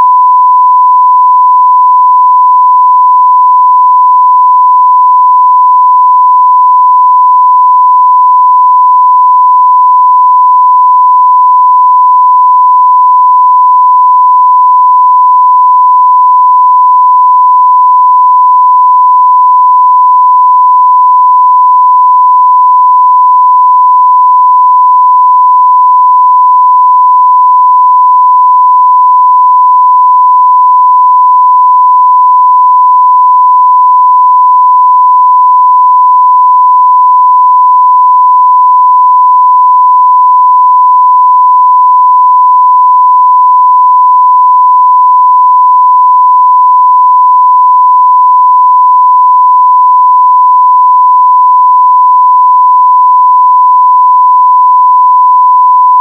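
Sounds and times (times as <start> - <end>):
sine-wave test tone: 0.0 - 56.0.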